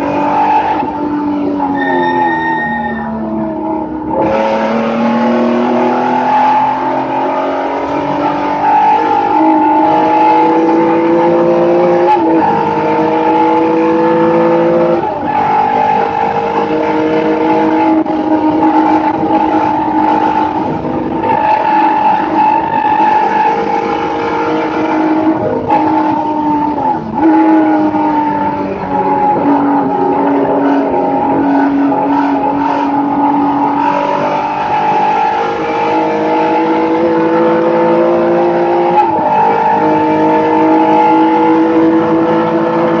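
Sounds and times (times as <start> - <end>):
race car engine revving: 0.0 - 43.0
road and wind noise: 0.0 - 43.0.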